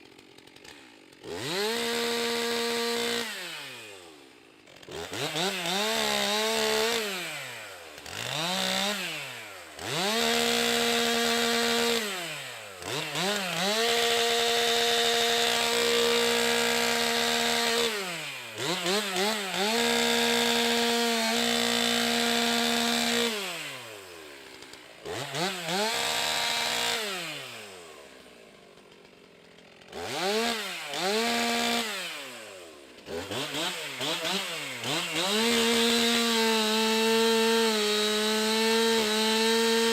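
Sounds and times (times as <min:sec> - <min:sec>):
chainsaw revving cutting wood: 0:00.0 - 0:39.9.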